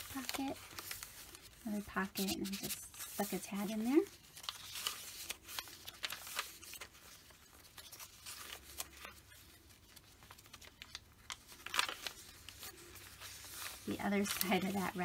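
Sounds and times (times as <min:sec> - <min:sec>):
paper pages rustling: 0:00.0 - 0:15.0.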